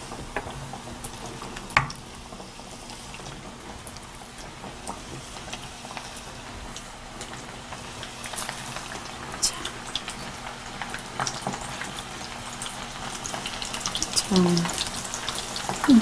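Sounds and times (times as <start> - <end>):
oil crackles and pops: 0.0 - 16.0
squid deep-frying in oil: 0.0 - 16.0.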